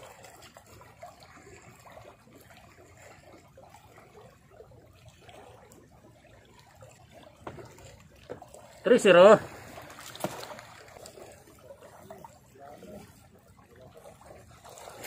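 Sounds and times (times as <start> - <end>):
small waves lapping on rocks: 0.0 - 15.0.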